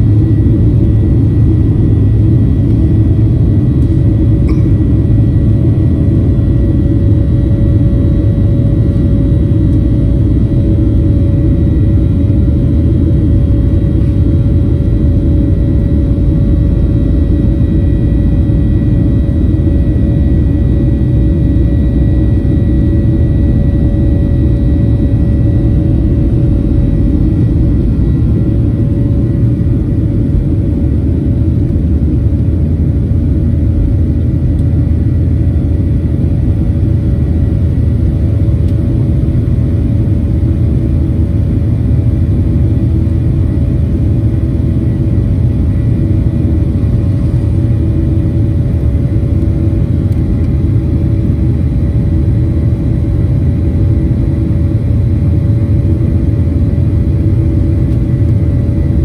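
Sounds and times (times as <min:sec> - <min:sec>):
jet engines rumbling: 0:00.0 - 0:59.0
thin steady engine whine: 0:00.0 - 0:59.0.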